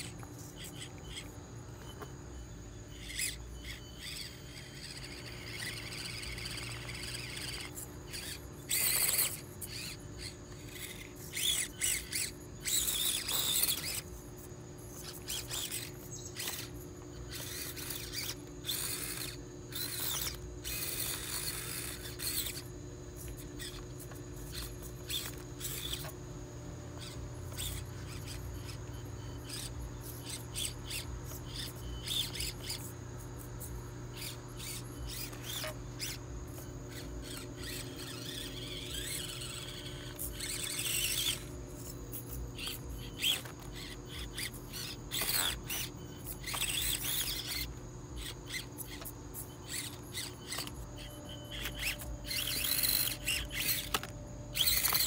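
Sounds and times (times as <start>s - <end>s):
small electric motor whining: 0.0s - 55.0s.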